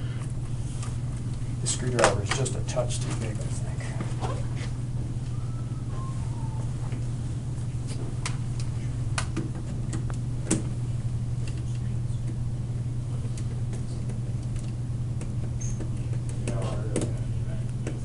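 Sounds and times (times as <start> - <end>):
low hum: 0.0 - 16.3.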